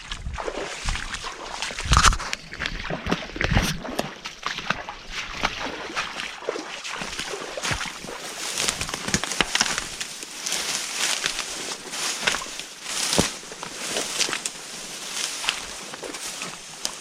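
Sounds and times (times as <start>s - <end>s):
water sloshing from wading steps: 0.0s - 17.0s.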